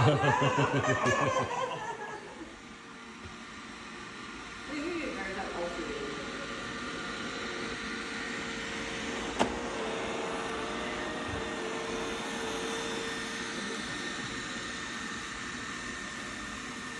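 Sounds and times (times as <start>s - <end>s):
robot vacuum motor hum: 0.0s - 16.9s.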